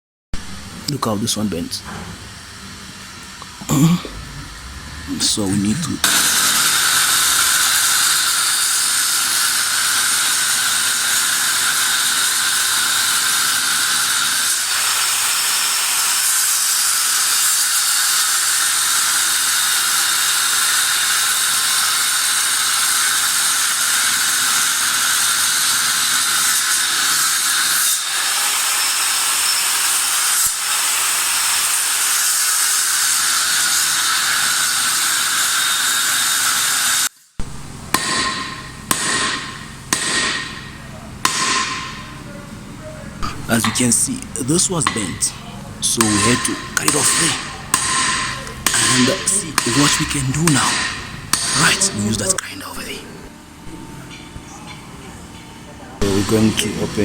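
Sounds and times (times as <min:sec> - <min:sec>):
angle grinder cutting steel: 0:03.4 - 0:42.3, 0:43.2 - 0:52.4.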